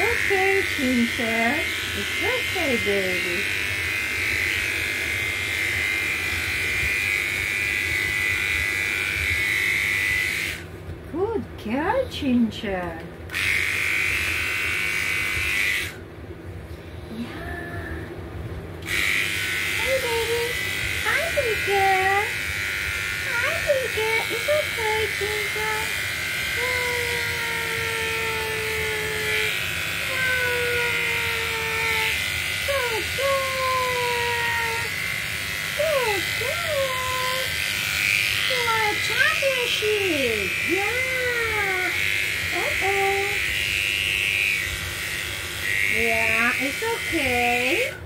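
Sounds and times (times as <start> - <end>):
electric clippers buzzing: 0.0 - 11.0, 12.8 - 16.1, 18.8 - 48.0.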